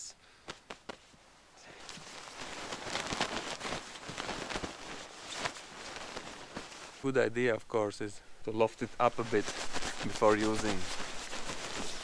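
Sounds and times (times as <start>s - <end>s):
sleeping bag fabric rustling: 0.0s - 7.2s, 8.6s - 12.0s.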